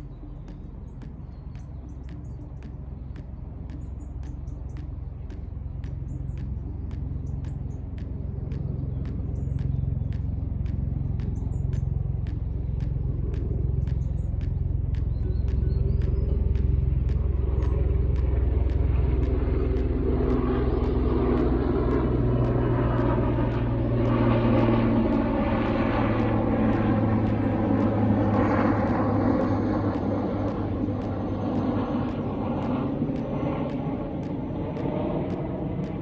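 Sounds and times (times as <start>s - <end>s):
loud engine rumble: 0.0s - 36.0s.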